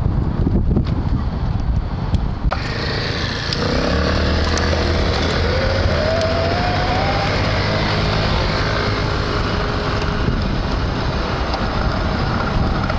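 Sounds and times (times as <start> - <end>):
wind noise on microphone: 0.0 - 12.9
electric bicycle motor whining: 2.5 - 12.9.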